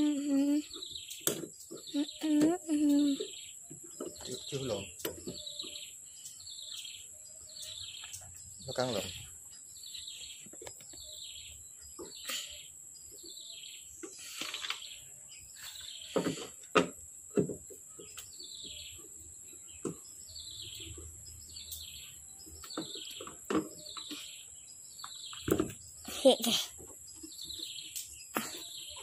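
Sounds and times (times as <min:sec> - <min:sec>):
bird chirping: 0:00.0 - 0:29.0.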